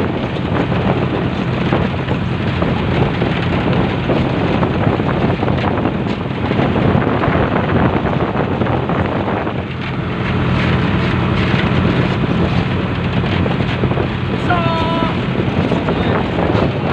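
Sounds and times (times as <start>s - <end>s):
boat engine drone: 0.0s - 16.9s
wind buffeting microphone: 0.0s - 16.9s.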